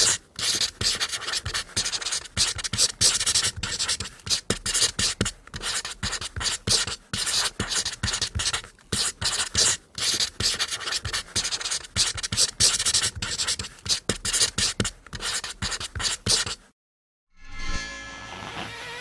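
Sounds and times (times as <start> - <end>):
marker scratching on paper: 0.0 - 16.7.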